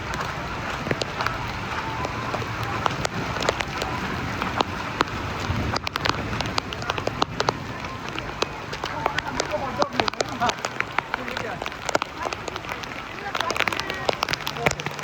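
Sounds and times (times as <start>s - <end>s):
heavy rain falling: 0.0s - 15.0s
sharp taps of raindrops: 0.0s - 15.0s.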